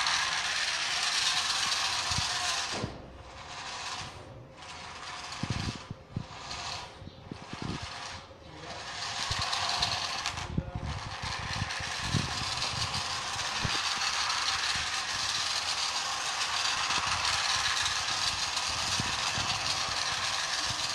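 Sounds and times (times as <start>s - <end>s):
toy car motor whirring: 0.0s - 20.9s.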